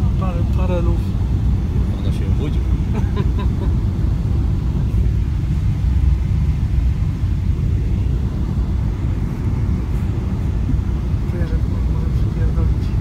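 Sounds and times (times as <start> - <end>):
airliner landing rumble: 0.0 - 13.0.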